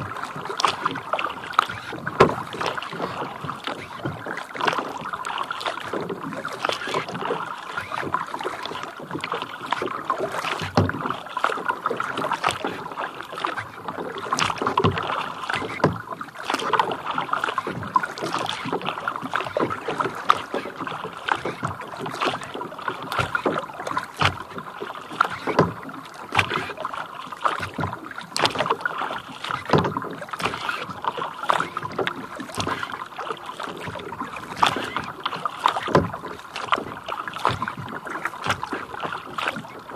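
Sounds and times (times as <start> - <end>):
water lapping against kayak hull: 0.0 - 39.9
water slaps and drips: 0.0 - 39.9.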